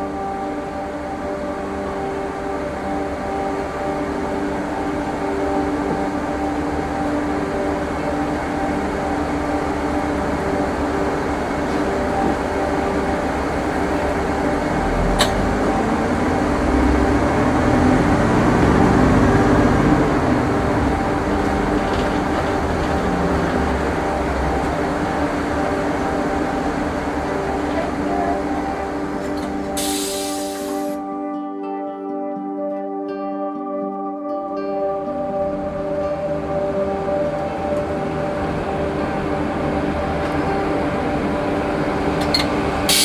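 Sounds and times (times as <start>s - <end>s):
bus drivetrain hum: 0.0s - 31.0s, 35.5s - 43.0s
road rumble: 0.0s - 31.0s, 35.4s - 43.0s.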